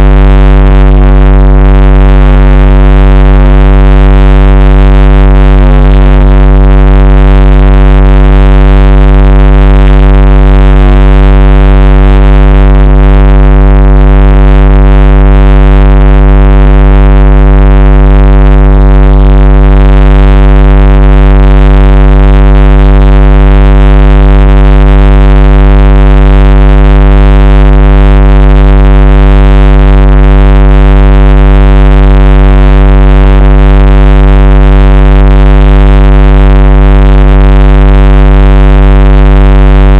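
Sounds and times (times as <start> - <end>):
loud low electronic drone: 0.0 - 39.9.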